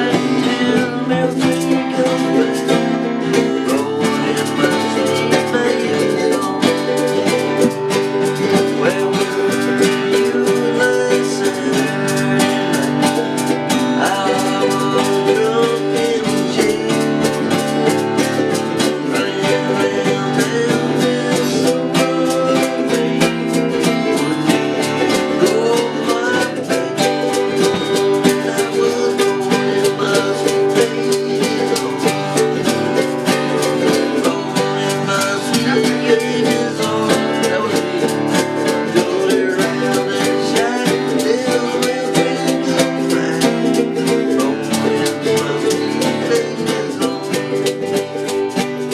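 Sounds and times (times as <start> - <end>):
acoustic string instruments country tune: 0.0 - 48.9.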